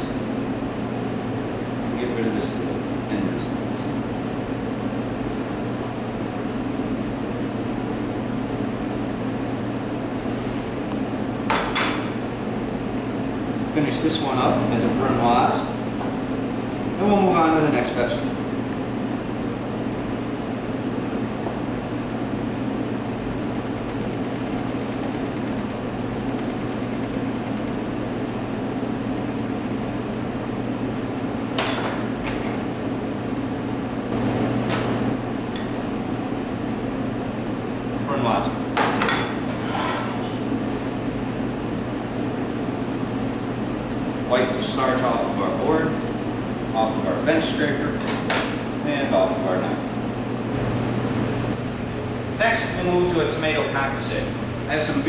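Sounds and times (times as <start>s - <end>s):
low machinery hum: 0.0s - 55.0s.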